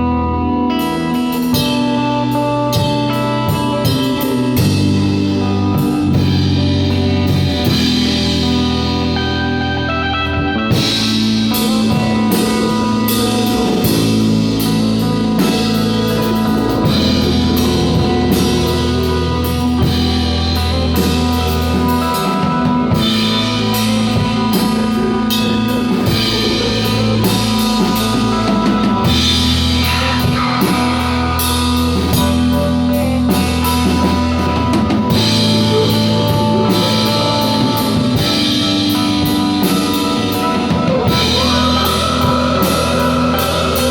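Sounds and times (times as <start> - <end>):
rock music with drums and guitar: 0.0 - 43.9.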